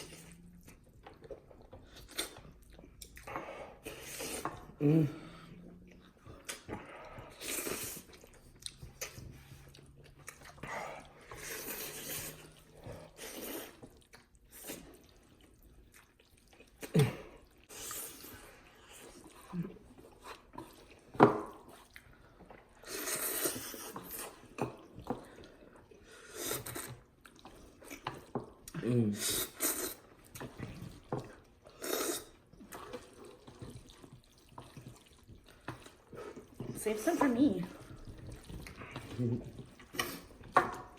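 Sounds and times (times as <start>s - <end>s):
wet chewing: 0.0s - 40.9s
person slurping noodles: 3.1s - 9.9s, 10.6s - 15.3s, 16.8s - 22.0s, 22.7s - 28.3s, 29.1s - 40.9s.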